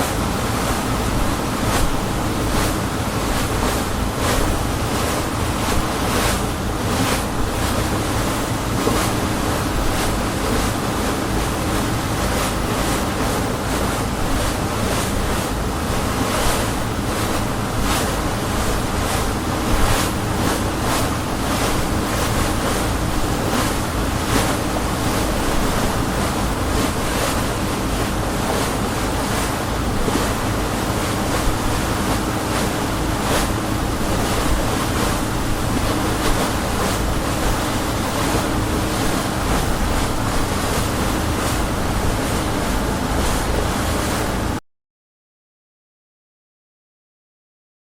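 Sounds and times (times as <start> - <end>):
boat engine drone: 0.0 - 44.6
hull splashing through waves: 0.0 - 44.6
rushing water: 0.0 - 44.6
wind noise on microphone: 0.0 - 44.6.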